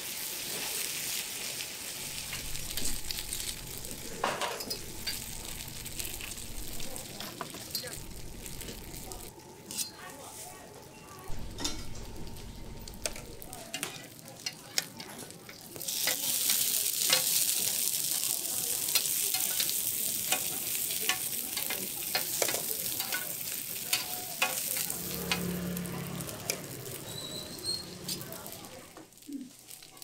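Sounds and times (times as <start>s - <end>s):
oil popping and crackling: 0.0s - 9.4s, 11.3s - 30.0s
buns sizzling in oil: 0.0s - 30.0s.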